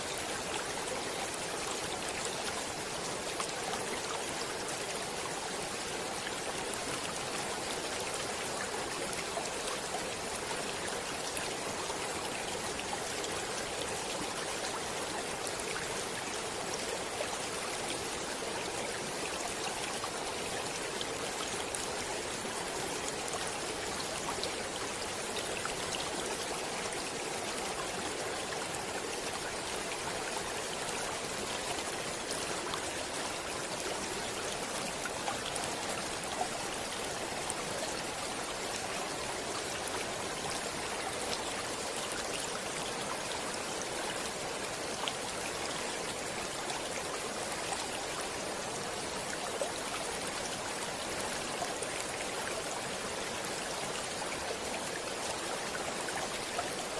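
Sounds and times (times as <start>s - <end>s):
stream of running water: 0.0s - 56.9s.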